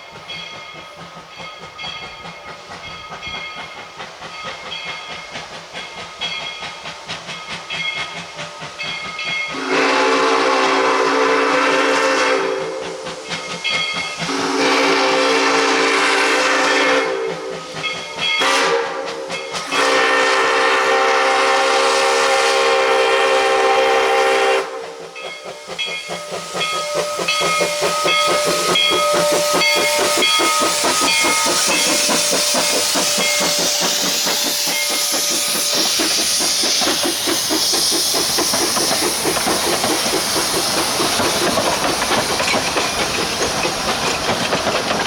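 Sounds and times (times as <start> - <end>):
steam locomotive exhaust beats: 0.0 - 45.0.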